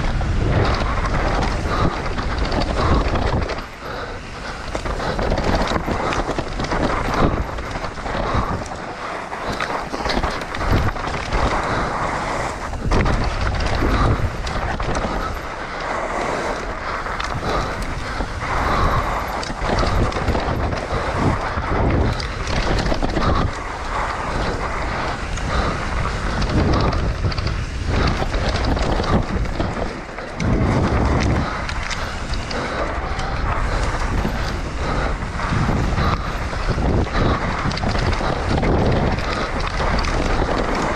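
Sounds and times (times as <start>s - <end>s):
bike knocks and rattles: 0.0s - 40.9s
bike tyres rolling on dirt: 0.0s - 40.9s
wind buffeting microphone: 0.0s - 40.9s.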